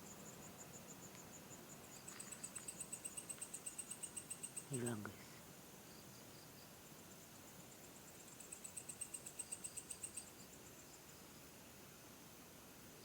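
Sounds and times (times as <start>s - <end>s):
faint insect pulsing: 0.0s - 12.0s
low background hiss: 0.0s - 13.0s
rapid high cricket chirps: 0.0s - 13.0s.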